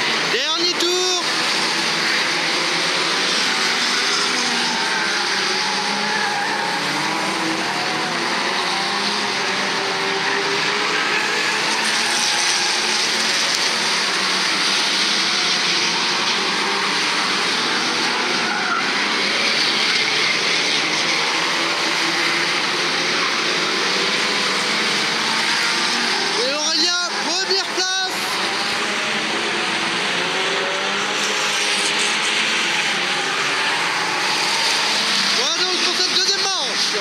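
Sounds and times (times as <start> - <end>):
racing car engines: 0.0 - 37.0.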